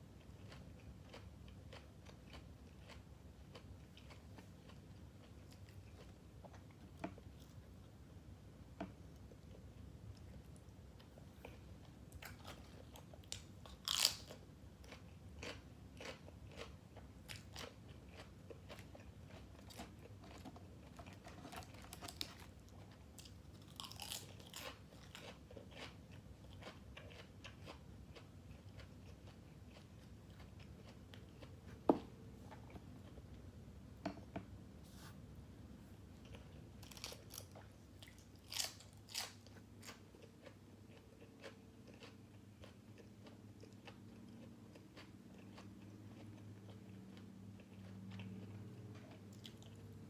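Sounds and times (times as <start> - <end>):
chewing and crunching food: 0.0 - 33.5, 36.1 - 50.0.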